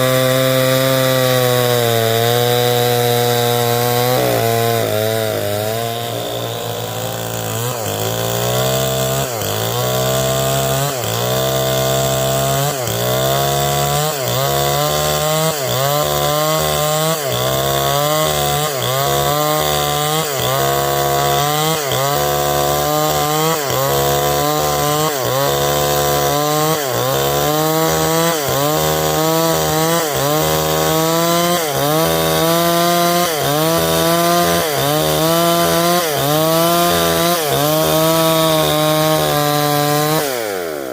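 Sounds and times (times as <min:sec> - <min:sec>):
chainsaw ripping a log: 0:00.0 - 0:40.9.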